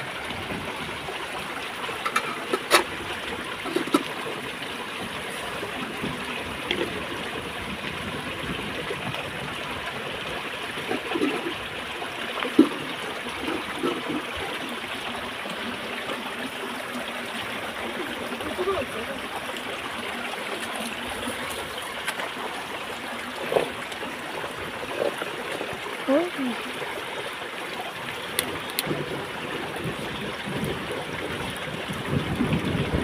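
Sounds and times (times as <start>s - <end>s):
stream trickling over rocks: 0.0s - 33.0s.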